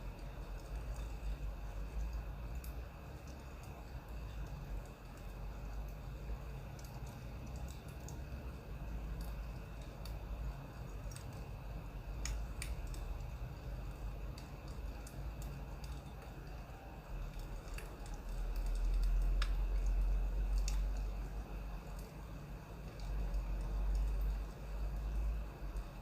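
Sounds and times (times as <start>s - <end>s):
low steady rumble: 0.0s - 26.0s
small sharp clicks and ticks: 0.0s - 26.0s.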